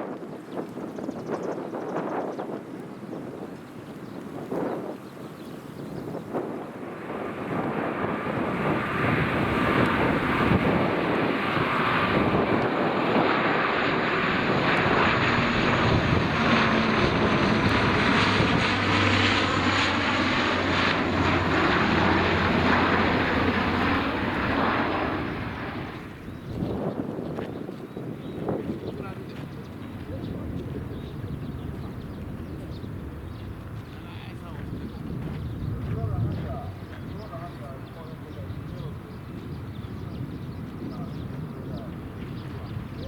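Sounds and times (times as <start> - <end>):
airliner engines passing overhead: 0.0 - 43.0.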